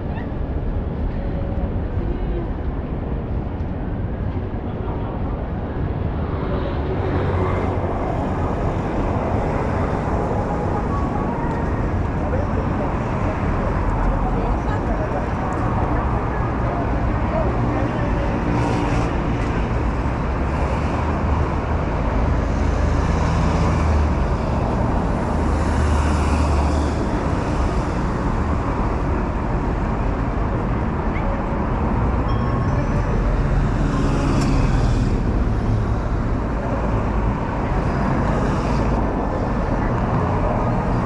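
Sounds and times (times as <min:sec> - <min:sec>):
vehicles passing by: 0:00.0 - 0:41.0
road traffic engine hum: 0:03.7 - 0:41.0.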